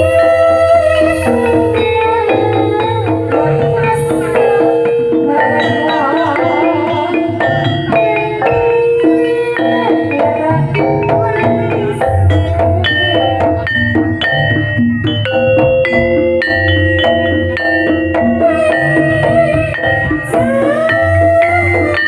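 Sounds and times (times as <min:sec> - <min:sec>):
drum beats: 0:00.0 - 0:22.0
struck metal keyed instruments: 0:00.0 - 0:22.0
wavering melodic line: 0:00.0 - 0:22.0.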